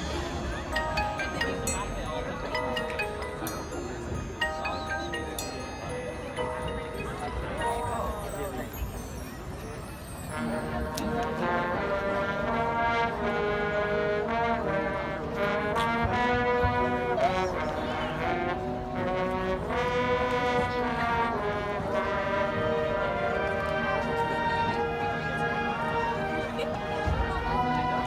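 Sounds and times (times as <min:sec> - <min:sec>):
marching band brass chords: 0:00.0 - 0:08.0, 0:10.3 - 0:28.0.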